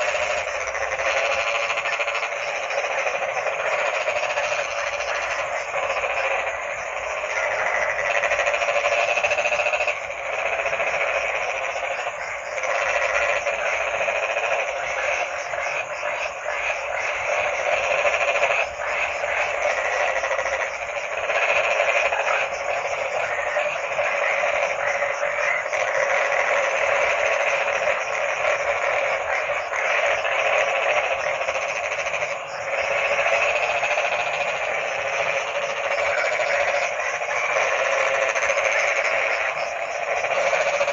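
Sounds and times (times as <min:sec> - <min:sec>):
chorus of frogs calling: 0:00.0 - 0:40.9.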